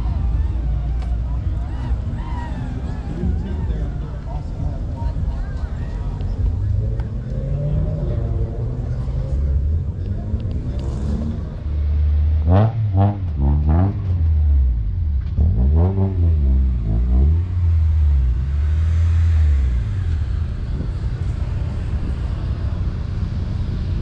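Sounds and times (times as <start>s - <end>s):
car engine rumbling and revving: 0.0s - 24.0s.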